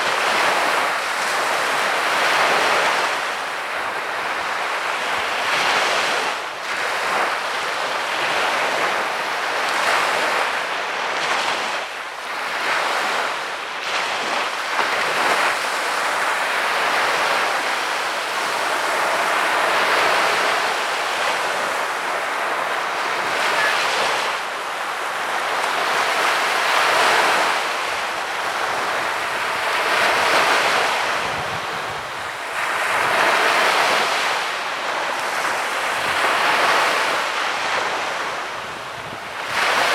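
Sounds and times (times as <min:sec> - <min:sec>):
small waves washing on beach: 0:00.0 - 0:39.9
wind on microphone: 0:00.0 - 0:39.9.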